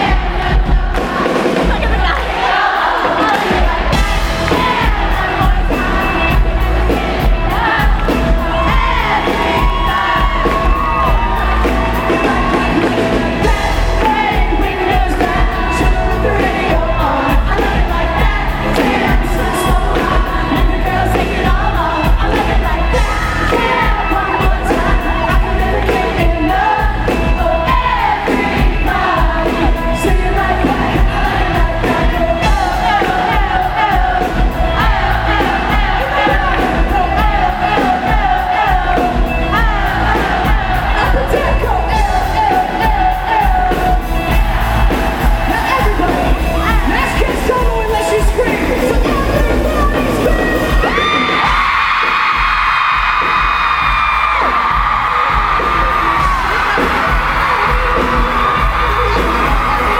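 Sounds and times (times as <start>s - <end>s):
drums: 0.0s - 59.9s
heavy bass: 0.0s - 59.9s
person singing lead vocal: 0.0s - 59.9s.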